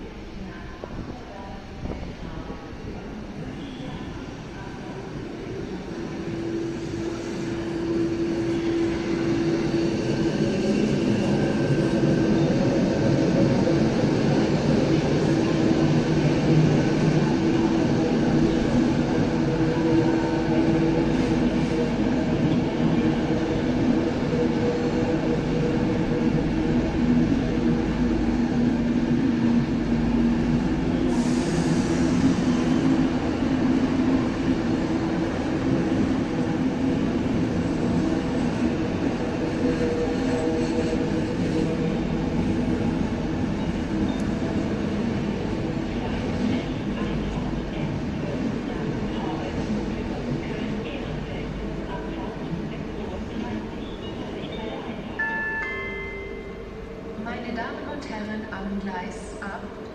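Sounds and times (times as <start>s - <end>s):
train rumbling on tracks: 0.0s - 59.9s.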